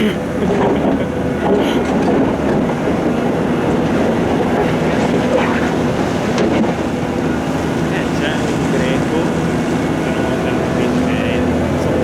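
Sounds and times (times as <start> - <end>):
heavy diesel machinery running: 0.0 - 12.0.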